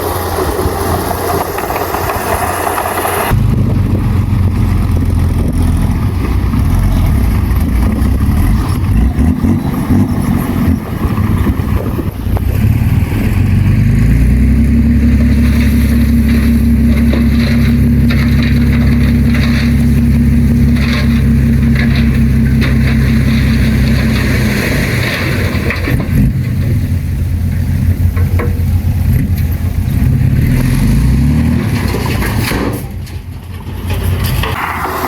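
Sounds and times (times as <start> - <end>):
diesel engine running under load: 0.0 - 35.0.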